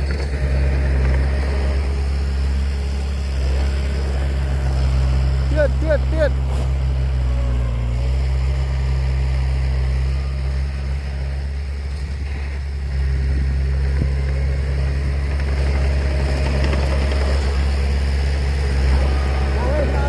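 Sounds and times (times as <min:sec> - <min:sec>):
heavy diesel engine drone: 0:00.0 - 0:20.0.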